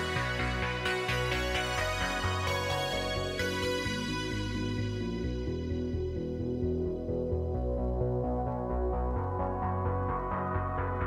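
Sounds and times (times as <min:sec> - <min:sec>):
ambient synthesizer music: 0:00.0 - 0:11.0.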